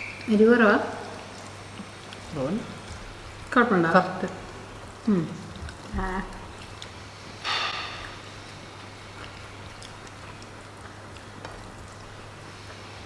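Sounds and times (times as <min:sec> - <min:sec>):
faint eating clicks and taps: 0:00.0 - 0:07.0, 0:08.0 - 0:12.8.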